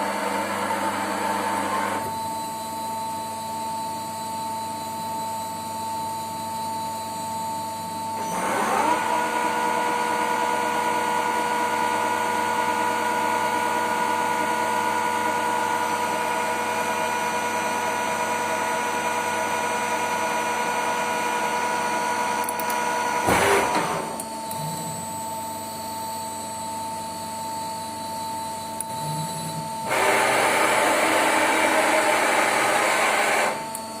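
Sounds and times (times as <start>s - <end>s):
lathe machine whine: 0.0s - 34.0s.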